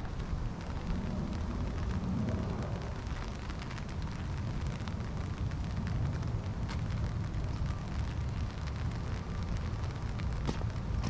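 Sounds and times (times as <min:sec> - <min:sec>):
raindrops ticking: 0:00.0 - 0:11.0
wind buffeting microphone: 0:00.0 - 0:11.0.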